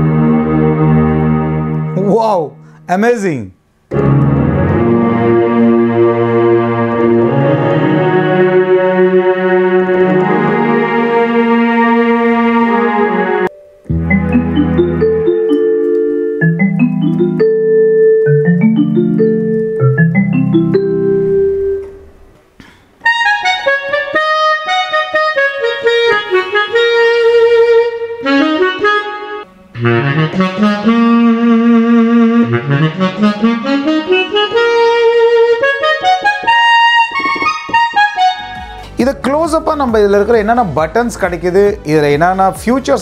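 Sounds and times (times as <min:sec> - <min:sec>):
keyboard clarinet melody: 0:00.0 - 0:03.2, 0:03.9 - 0:22.3, 0:23.0 - 0:39.0
piano chords: 0:00.0 - 0:43.0.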